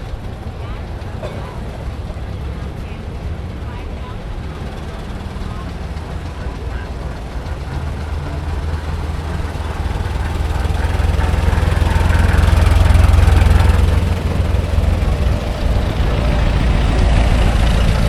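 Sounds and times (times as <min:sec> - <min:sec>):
old car engine passing by: 0:00.0 - 0:18.0.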